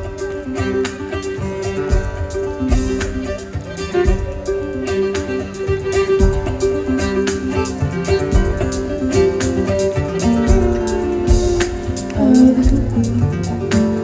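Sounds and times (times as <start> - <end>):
fiddle melody: 0.0 - 14.0
steady drum beat: 0.0 - 14.0
strummed guitar: 0.0 - 14.0.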